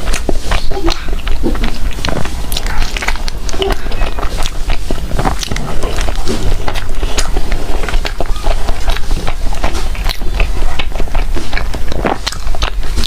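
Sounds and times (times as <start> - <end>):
bread being bitten and chewed: 0.0 - 13.0
small crackles and clicks: 0.0 - 13.0.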